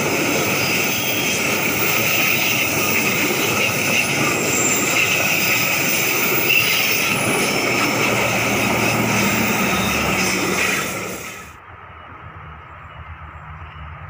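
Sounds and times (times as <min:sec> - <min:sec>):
train wheels rumbling and clattering: 0:00.0 - 0:14.0
wheel flanges squealing: 0:00.0 - 0:14.0.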